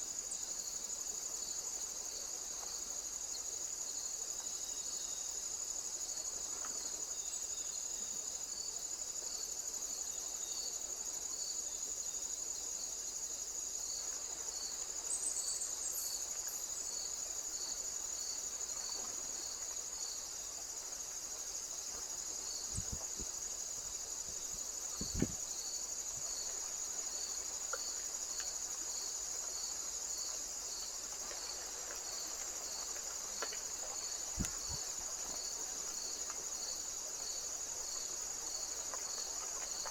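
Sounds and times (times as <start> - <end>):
insect chirping in pulses: 2.8 - 39.9.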